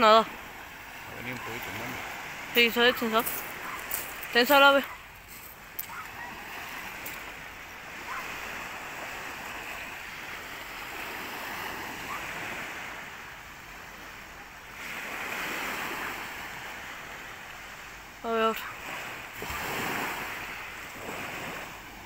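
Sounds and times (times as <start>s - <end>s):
small waves breaking: 0.0s - 22.0s.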